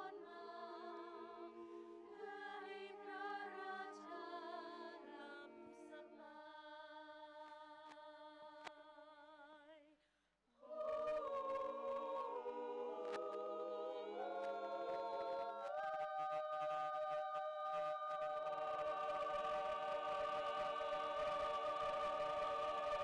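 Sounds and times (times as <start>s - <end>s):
choir singing: 0.0s - 7.2s, 10.6s - 23.0s.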